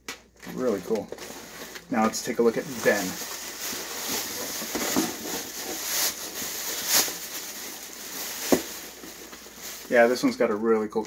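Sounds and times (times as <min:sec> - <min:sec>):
plastic bag rustling: 0:00.4 - 0:11.0.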